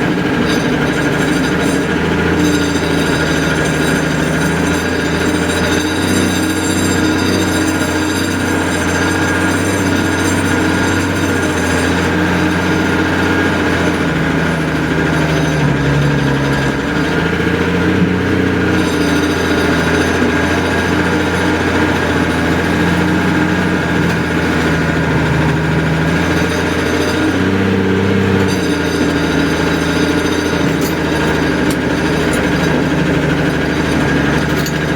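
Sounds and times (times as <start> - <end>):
engine running loudly: 0.0 - 34.9.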